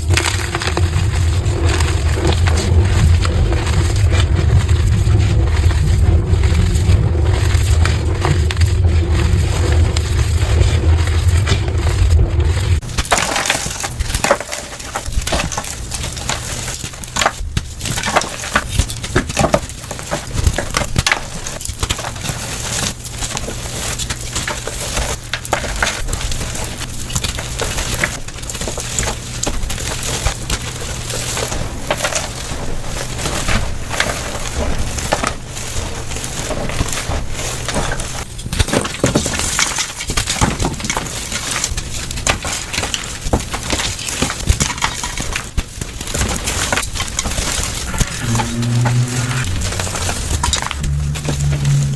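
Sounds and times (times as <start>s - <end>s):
chalk being crushed: 0.0s - 51.9s.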